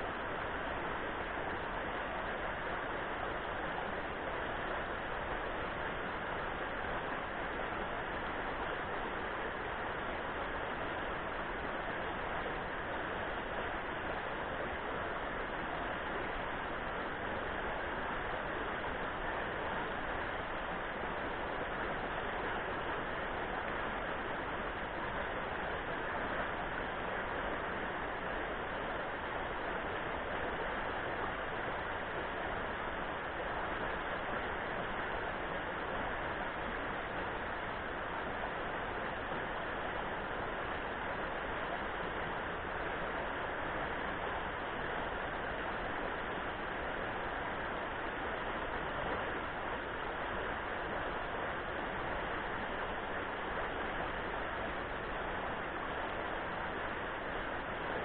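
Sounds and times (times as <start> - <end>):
river rapids rushing over rocks: 0.1 - 58.0.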